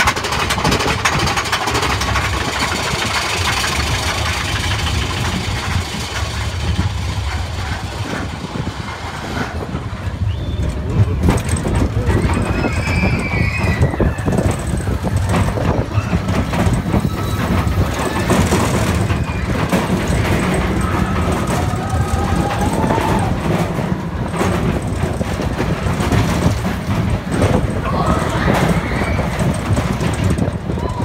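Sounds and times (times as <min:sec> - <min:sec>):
roller coaster wheels rumbling on rails: 0:00.0 - 0:31.0
small clacks of coaster cars: 0:00.0 - 0:31.0.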